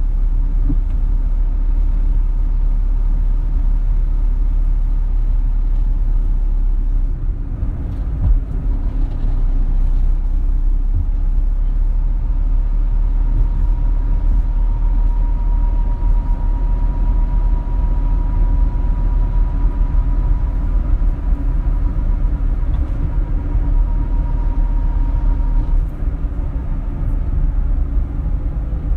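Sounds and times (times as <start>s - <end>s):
faint steady whine: 0.0s - 28.9s
steady low rumble: 0.0s - 28.9s.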